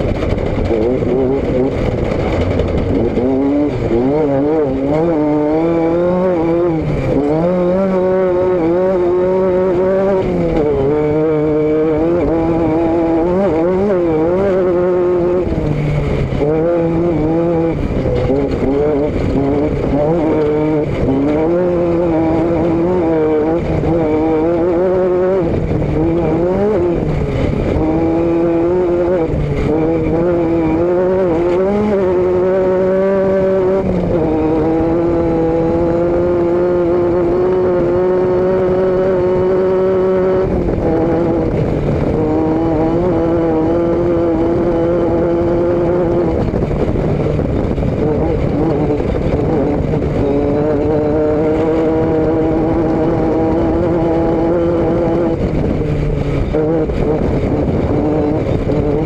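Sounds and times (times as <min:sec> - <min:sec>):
vehicle engine and exhaust: 0:00.0 - 0:59.0.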